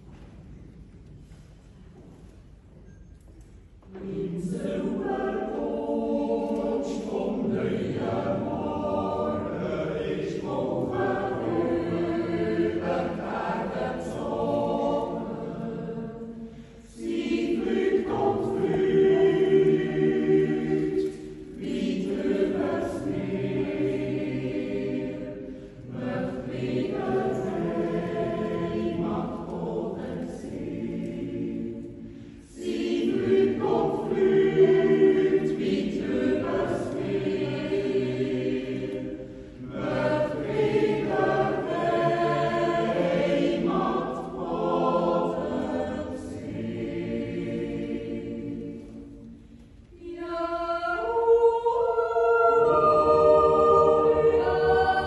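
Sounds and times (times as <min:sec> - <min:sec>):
choir yodeling a cappella: 0:03.8 - 0:55.0.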